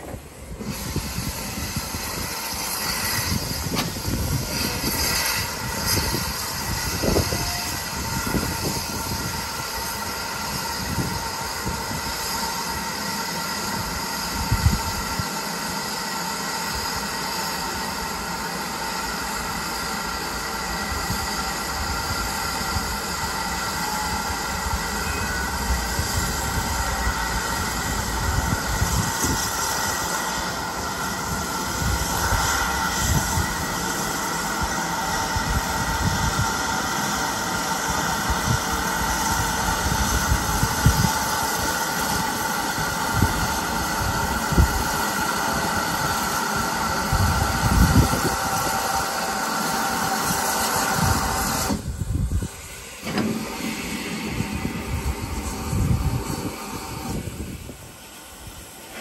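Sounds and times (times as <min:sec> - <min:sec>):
steam hissing from locomotive: 0:00.0 - 0:59.0.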